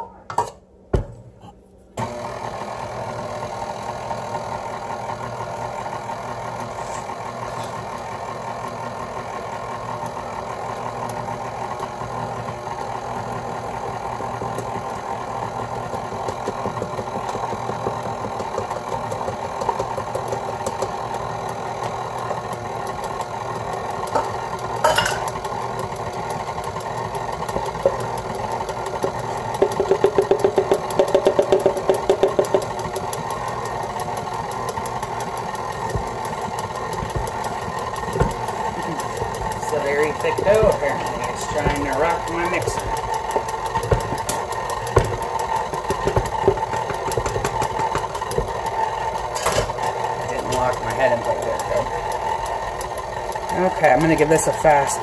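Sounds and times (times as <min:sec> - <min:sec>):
stand mixer motor running: 0:02.0 - 0:55.0.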